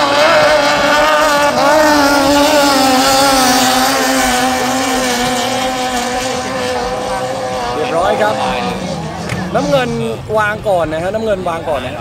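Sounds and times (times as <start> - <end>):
boat engines whining at high revs: 0.0 - 12.0.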